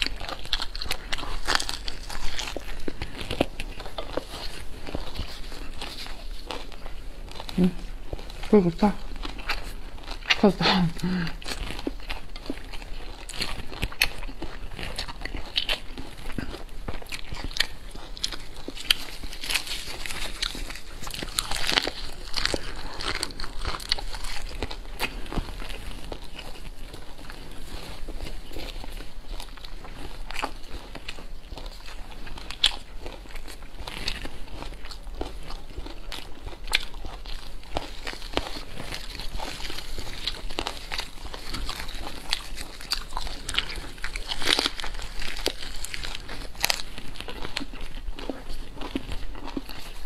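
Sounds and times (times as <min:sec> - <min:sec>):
lettuce crunching: 0:00.0 - 0:50.0
wet chewing: 0:00.0 - 0:50.0.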